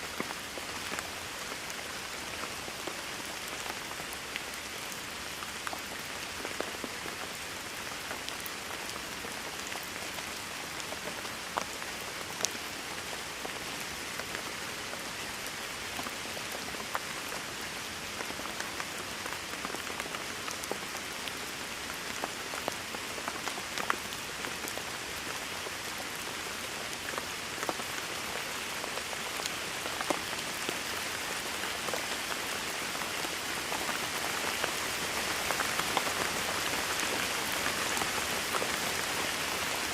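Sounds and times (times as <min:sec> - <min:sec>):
steady rain hissing: 0:00.0 - 0:39.9
water drips and patters: 0:00.1 - 0:39.9.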